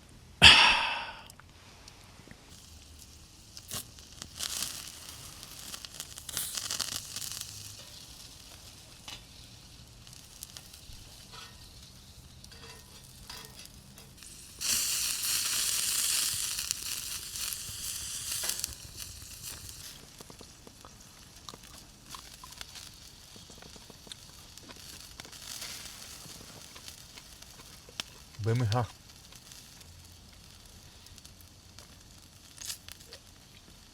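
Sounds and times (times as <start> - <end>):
food sizzling over campfire: 0.4 - 33.9
small clicks and crackles: 1.4 - 33.9.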